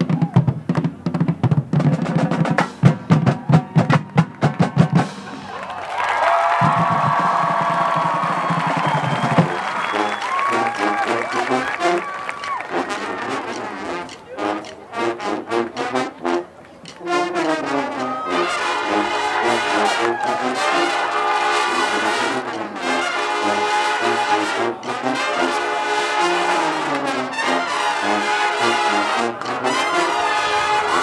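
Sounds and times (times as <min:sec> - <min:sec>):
marching band brass: 0:00.0 - 0:31.0.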